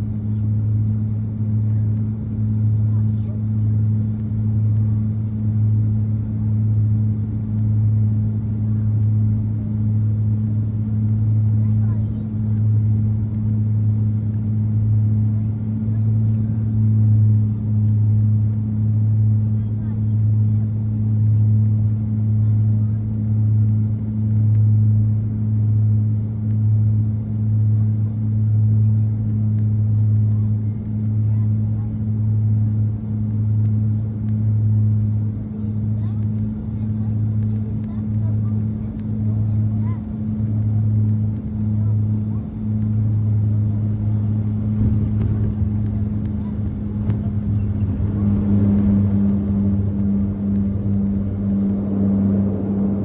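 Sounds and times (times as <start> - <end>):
low engine drone: 0.0 - 53.0.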